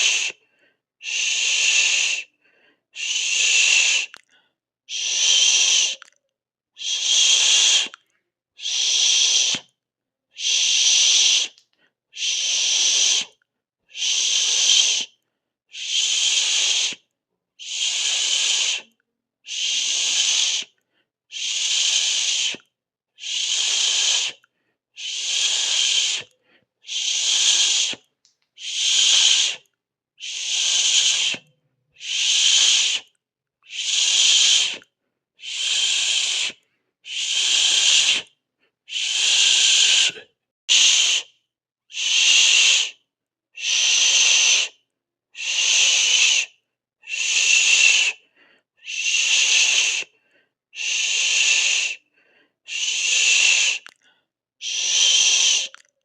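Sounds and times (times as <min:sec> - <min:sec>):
person hissing through teeth: 0:00.0 - 0:00.4, 0:01.0 - 0:02.3, 0:03.0 - 0:04.3, 0:04.9 - 0:06.1, 0:06.8 - 0:08.0, 0:08.6 - 0:13.3, 0:13.9 - 0:41.3, 0:41.9 - 0:43.0, 0:43.6 - 0:44.8, 0:45.4 - 0:48.2, 0:48.8 - 0:50.2, 0:50.8 - 0:52.1, 0:52.7 - 0:55.9.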